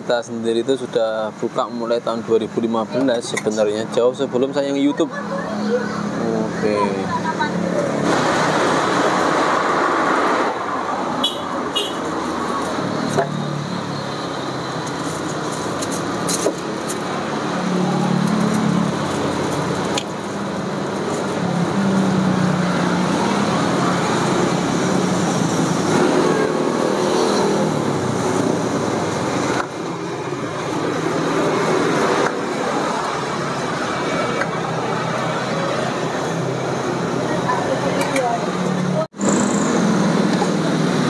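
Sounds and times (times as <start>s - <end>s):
road noise hiss: 0.0s - 41.0s
vehicle engines passing: 0.0s - 41.0s.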